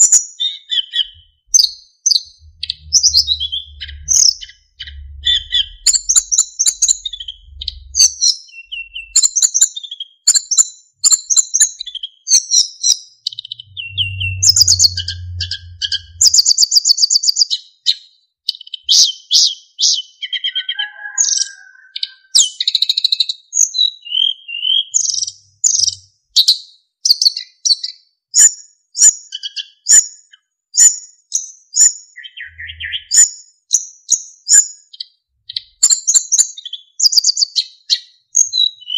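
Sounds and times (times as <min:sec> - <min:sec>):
bird singing chirps and trills: 0:00.0 - 0:28.0, 0:31.8 - 0:33.5, 0:34.1 - 0:38.9.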